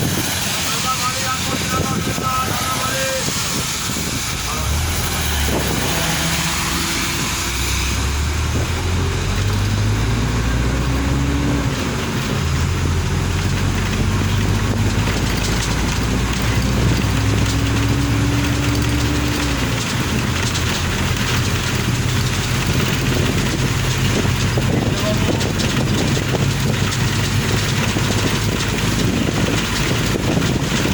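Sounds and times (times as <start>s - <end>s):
car engine accelerating: 0.0s - 30.9s
tyres hissing on wet road: 0.0s - 30.9s.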